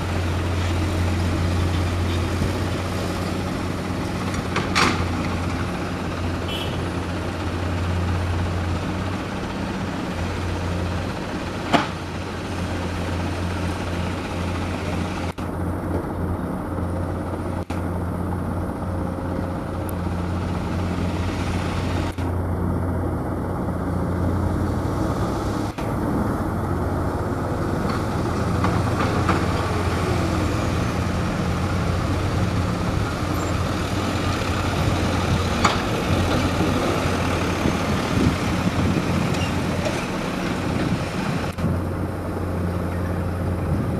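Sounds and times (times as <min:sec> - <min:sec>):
diesel truck engines idling: 0:00.0 - 0:43.9.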